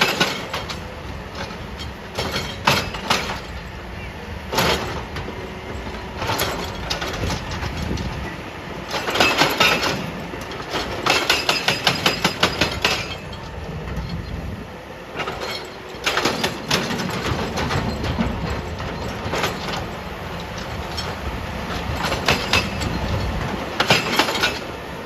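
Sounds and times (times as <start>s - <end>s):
hydraulic breaker hammering rock: 0.0s - 3.7s, 4.5s - 13.5s, 15.2s - 24.7s
diesel engine running: 0.0s - 24.7s.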